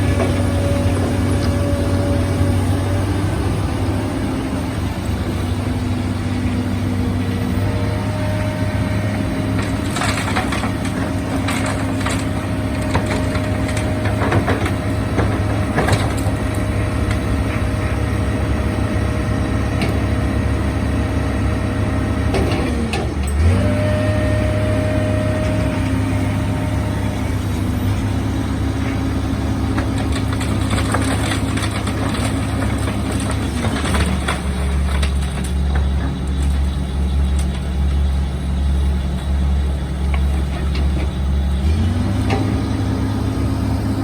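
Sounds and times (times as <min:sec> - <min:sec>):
soil and stones crunching: 0:00.0 - 0:20.8, 0:21.4 - 0:44.0
heavy machine engine running: 0:00.0 - 0:44.0.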